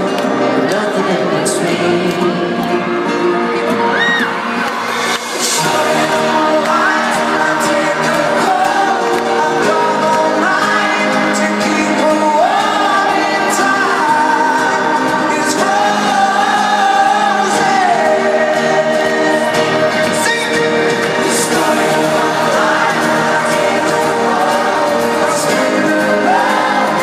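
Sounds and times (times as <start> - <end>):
pop band backing: 0.0 - 27.0.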